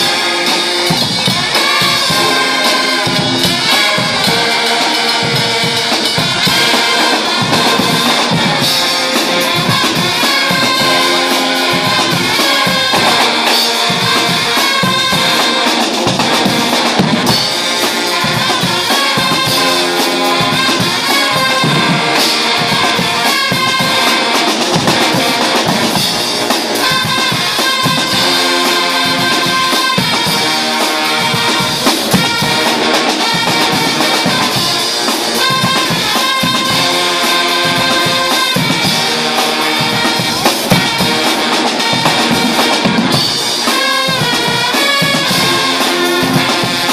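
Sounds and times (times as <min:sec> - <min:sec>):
bass drums: 0:00.0 - 0:46.9
brass band playing: 0:00.0 - 0:46.9
drum kit and cymbals: 0:00.0 - 0:46.9.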